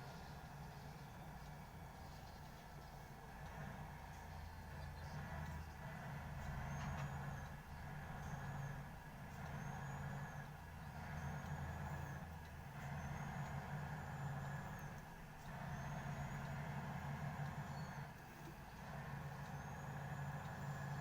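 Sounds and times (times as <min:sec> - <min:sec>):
car engine and road drone: 0:00.0 - 0:21.0.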